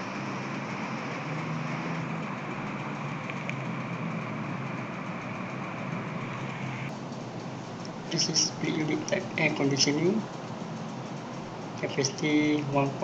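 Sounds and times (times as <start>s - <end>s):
air conditioner hum and fan: 0.0s - 13.0s.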